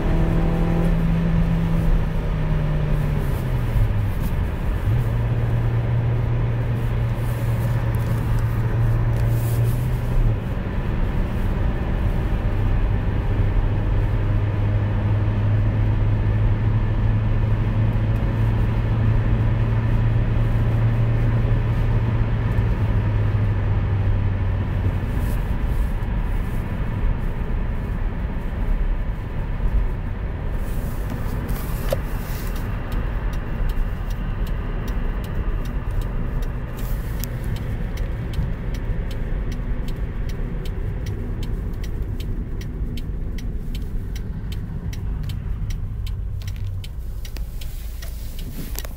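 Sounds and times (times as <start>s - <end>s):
car engine accelerating: 0.0s - 48.9s
road noise: 0.0s - 48.9s.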